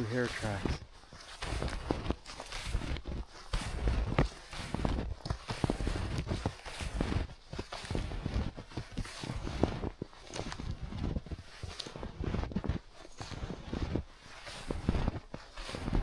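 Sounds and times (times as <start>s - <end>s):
snowshoes crunching through snow: 0.0s - 16.0s.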